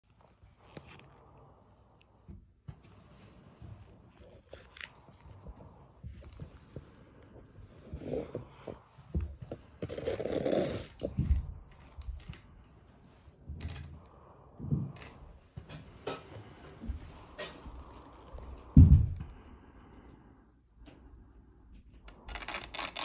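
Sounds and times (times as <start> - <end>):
cable rustling and scraping: 0.0 - 19.3, 21.9 - 23.0.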